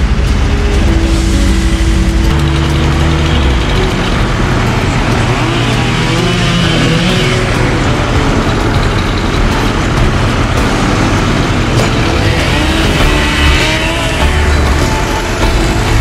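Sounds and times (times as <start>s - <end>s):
heavy equipment engine running: 0.0s - 16.0s.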